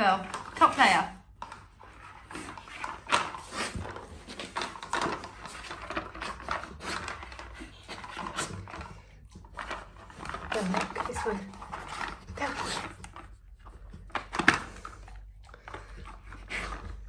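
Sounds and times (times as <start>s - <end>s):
plastic layers clacking: 0.0s - 17.0s
dog sniffing: 2.0s - 9.5s, 10.5s - 17.0s.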